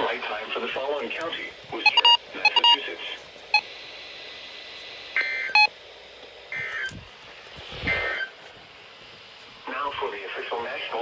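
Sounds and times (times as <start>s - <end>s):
steady radio hiss: 0.0s - 11.0s.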